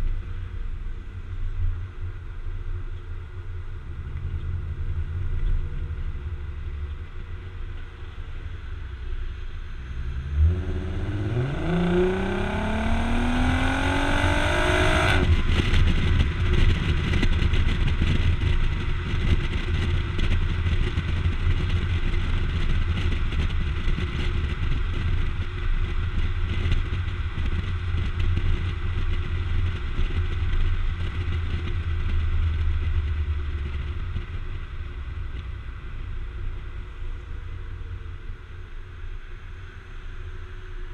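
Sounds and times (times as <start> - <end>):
wind and road noise: 0.0 - 40.9
car exhaust accelerating: 4.0 - 38.2.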